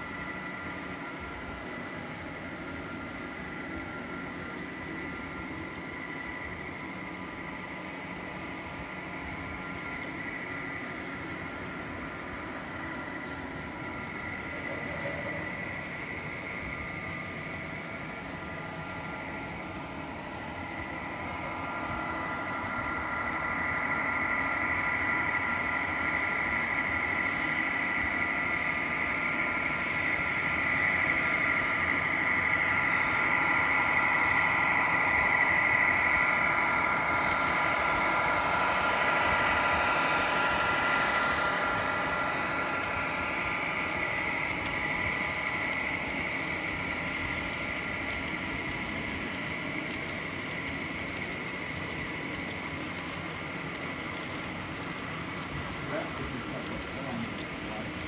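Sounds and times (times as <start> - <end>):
model train whine: 0.0 - 58.0.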